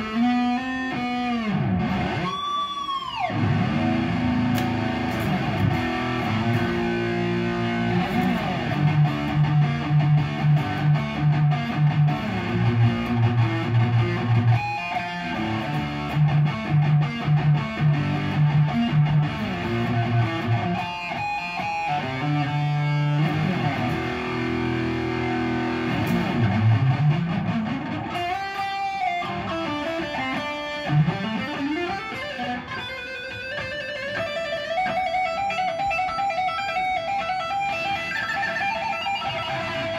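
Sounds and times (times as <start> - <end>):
electric guitar riffs: 0.0 - 39.9.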